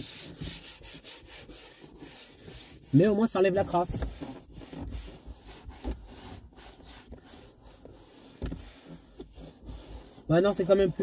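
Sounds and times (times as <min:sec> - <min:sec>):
cleaning wipe rubbing on plastic: 0:00.0 - 0:11.0.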